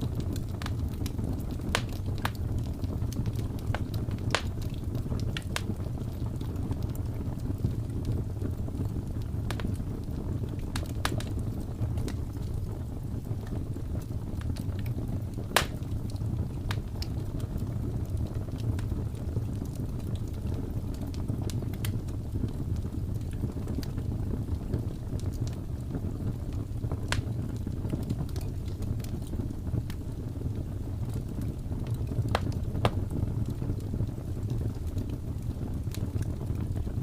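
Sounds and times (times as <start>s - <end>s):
low rumble of flame: 0.0s - 37.0s
wood fire crackling: 0.0s - 37.0s.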